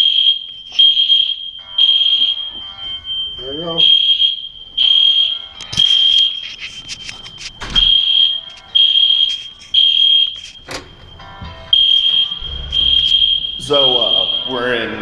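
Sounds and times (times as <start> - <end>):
fire alarm beeping: 0.0 - 15.0.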